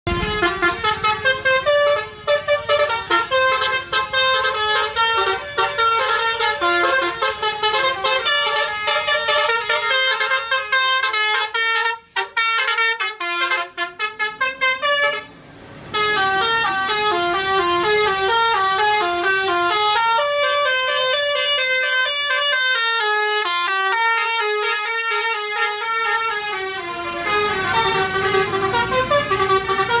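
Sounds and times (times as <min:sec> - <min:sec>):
multi-tone bus horn melodies: 0:00.0 - 0:30.0.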